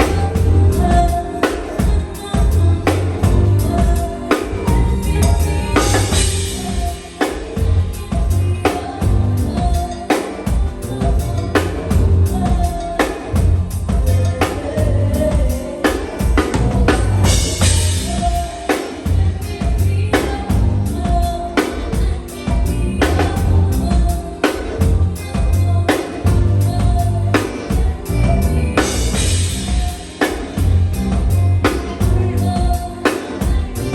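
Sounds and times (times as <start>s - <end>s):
live band playing: 0.0s - 33.9s.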